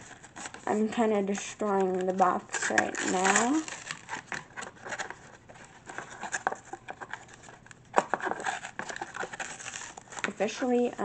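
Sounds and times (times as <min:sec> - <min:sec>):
cardboard and plastic packaging crackling: 0:00.0 - 0:11.0.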